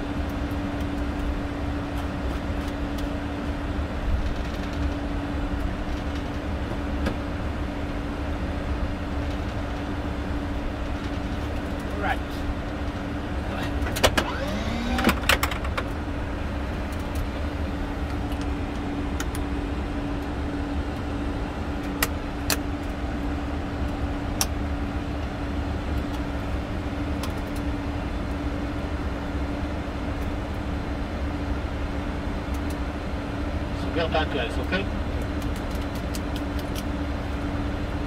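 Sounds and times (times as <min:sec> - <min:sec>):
cockpit rumble and hum: 0:00.0 - 0:38.0.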